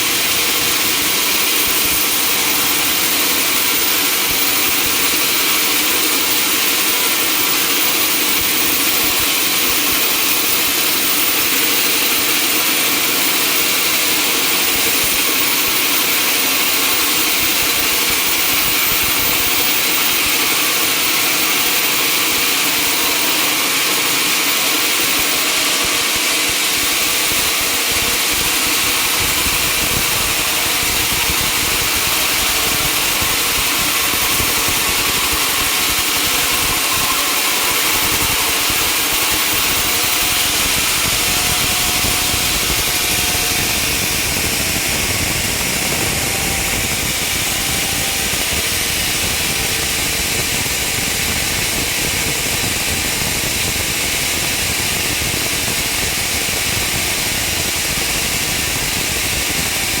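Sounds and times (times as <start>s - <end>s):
sawmill machinery drone: 0.0s - 60.0s.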